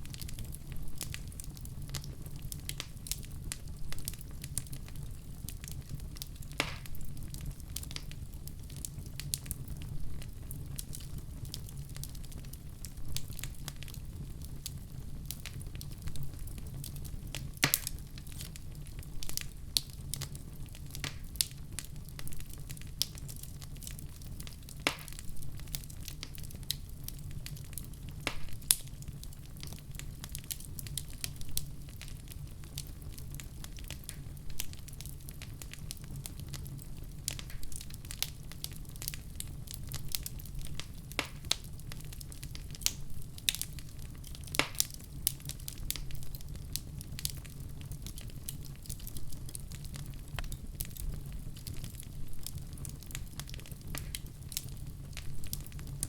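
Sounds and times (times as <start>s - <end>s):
fire low rumble: 0.0s - 56.0s
wood fire crackling and popping: 0.0s - 56.0s.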